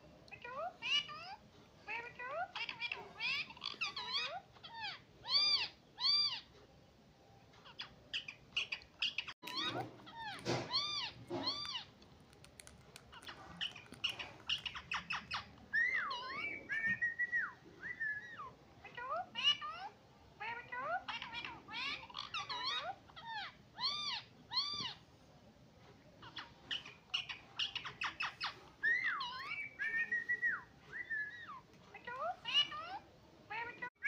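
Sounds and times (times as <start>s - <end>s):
parakeet squawking: 0.4s - 6.5s, 7.6s - 17.0s, 18.2s - 25.0s, 26.2s - 33.9s.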